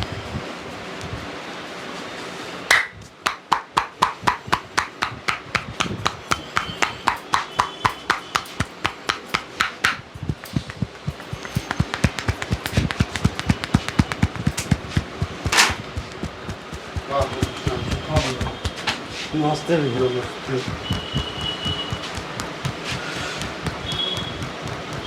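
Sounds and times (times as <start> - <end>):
hands tapping massage claps: 2.7 - 25.0.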